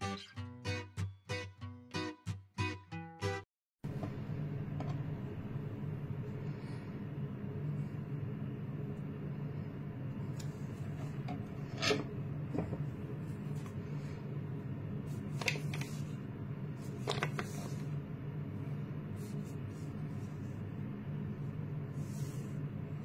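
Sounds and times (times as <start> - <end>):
steady low hum: 3.9 - 23.0.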